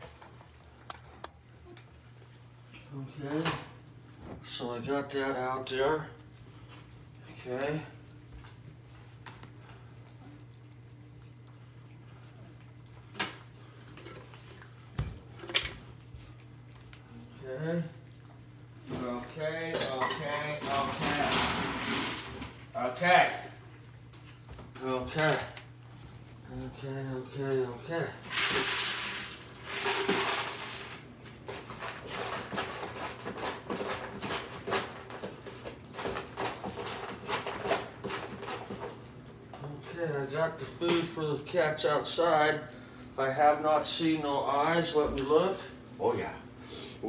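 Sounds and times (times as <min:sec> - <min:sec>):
cats chewing and lapping: 0:00.0 - 0:47.0.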